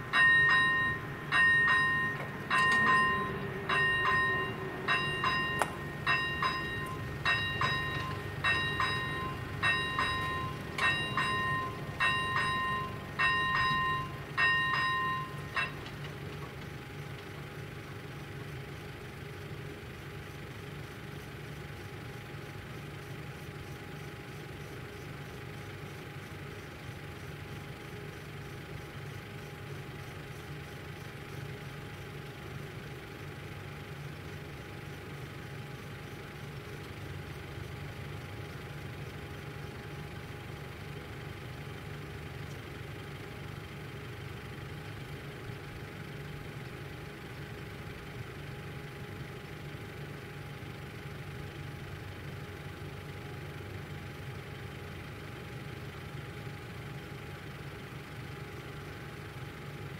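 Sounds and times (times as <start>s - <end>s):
faint steady whine: 0.0s - 59.9s
low engine hum: 0.0s - 59.9s.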